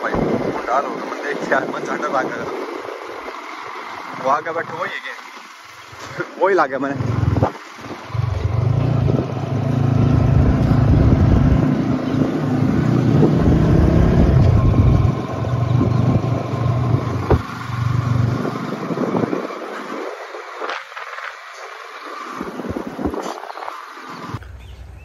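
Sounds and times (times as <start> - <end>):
motorcycle engine rumble: 0.1 - 21.5.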